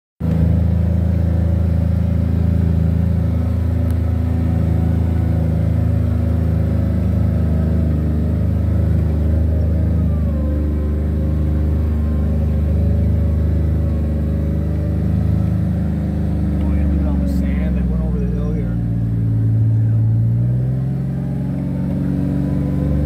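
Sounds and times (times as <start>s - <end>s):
off-road vehicle engine droning: 0.2s - 23.0s.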